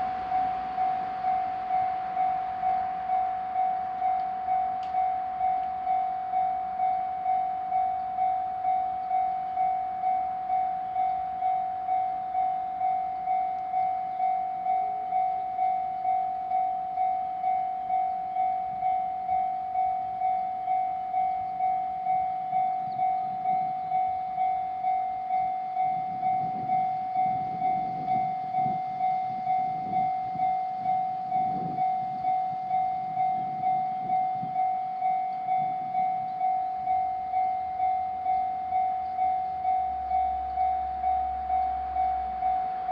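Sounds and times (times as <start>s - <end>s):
level crossing alarm bell: 0.0s - 42.9s
train wheels rumbling on rail: 0.0s - 42.9s.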